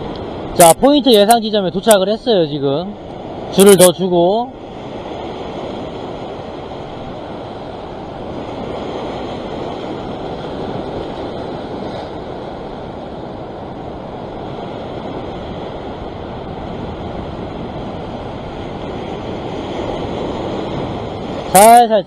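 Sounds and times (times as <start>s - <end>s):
ocean surf washing over rocks: 0.0s - 22.0s.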